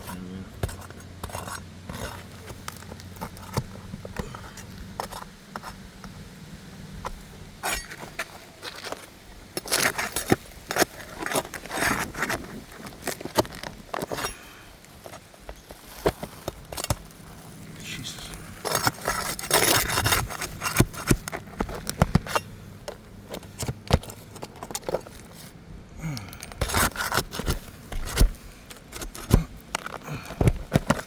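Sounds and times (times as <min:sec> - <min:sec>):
roof shingle scraping and cracking: 0:00.0 - 0:06.3, 0:06.9 - 0:31.0.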